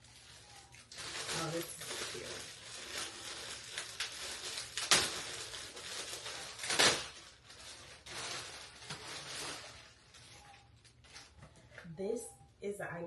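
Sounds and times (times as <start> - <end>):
packaging rustling and crinkling: 0.0 - 11.8.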